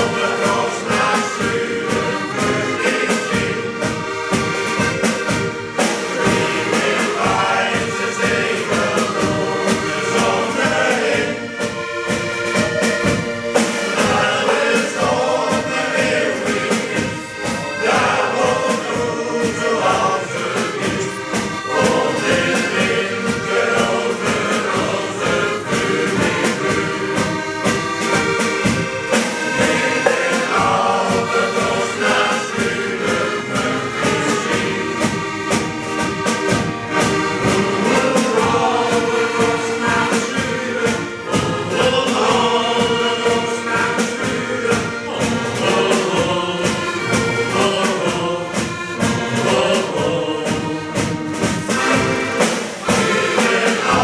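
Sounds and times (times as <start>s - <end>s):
accordion: 0.0s - 54.0s
drum kit: 0.0s - 54.0s
male choir singing: 0.0s - 54.0s.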